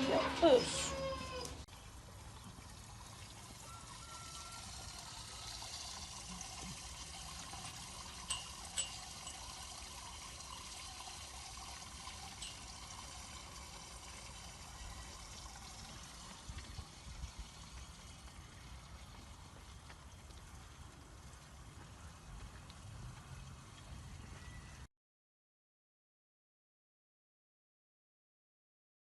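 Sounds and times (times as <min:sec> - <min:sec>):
water trickling: 0:00.0 - 0:24.9.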